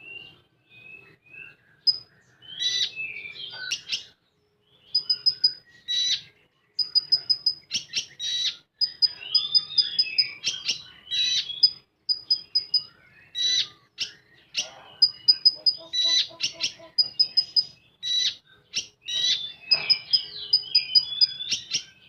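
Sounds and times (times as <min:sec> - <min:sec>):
bird singing: 0:00.0 - 0:22.0.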